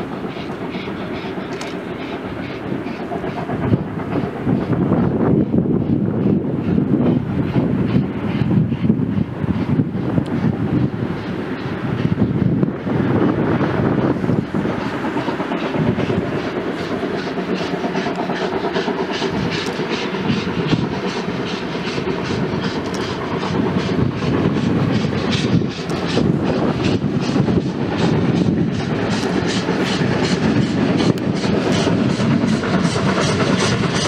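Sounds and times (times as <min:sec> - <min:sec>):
steam locomotive exhaust chuffs: 0:00.0 - 0:34.0.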